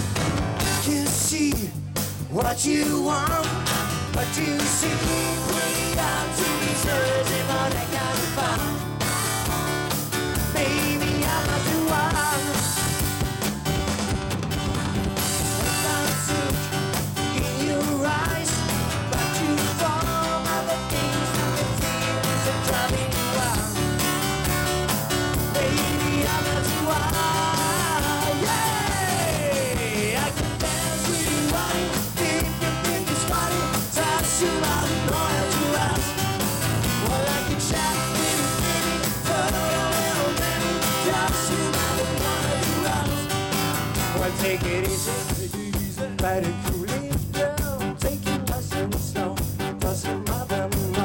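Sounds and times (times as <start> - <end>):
acoustic guitar: 0.0 - 51.0
electric bass: 0.0 - 51.0
keyboard: 0.0 - 51.0
person singing: 0.6 - 9.4, 10.3 - 13.0, 14.6 - 24.0, 25.4 - 51.0.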